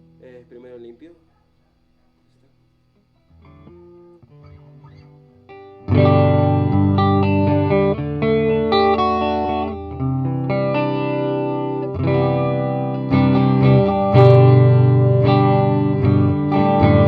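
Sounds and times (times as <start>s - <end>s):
electric guitar chords and notes: 2.9s - 17.0s.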